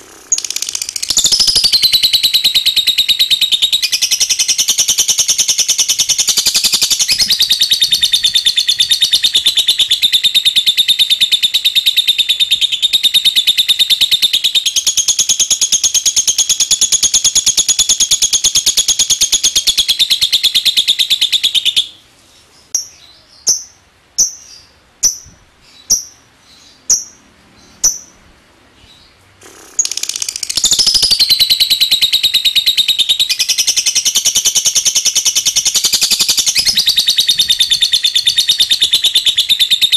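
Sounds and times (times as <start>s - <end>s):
lovebird chattering trill: 0.0s - 22.0s, 22.7s - 28.2s, 28.9s - 39.9s.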